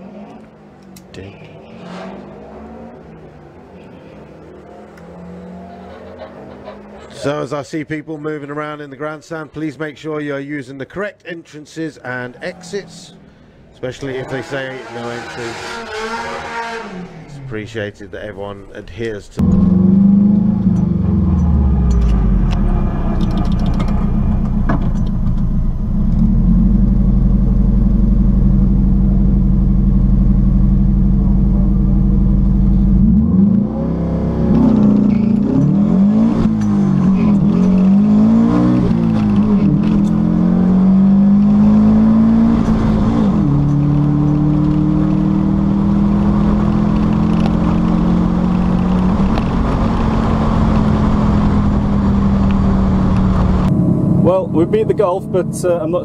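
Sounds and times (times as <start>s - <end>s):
race car engine revving: 0.0s - 7.2s, 14.0s - 17.5s, 19.4s - 56.0s.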